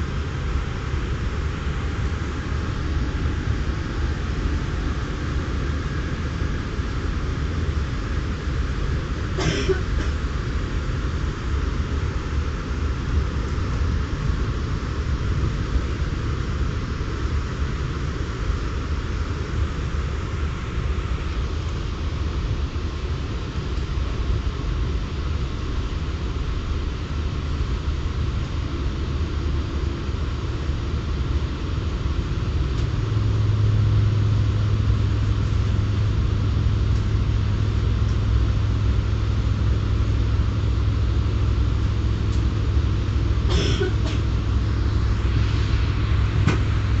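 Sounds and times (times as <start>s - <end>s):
low hum: 0.0s - 47.0s
train carriage rumble: 0.0s - 47.0s.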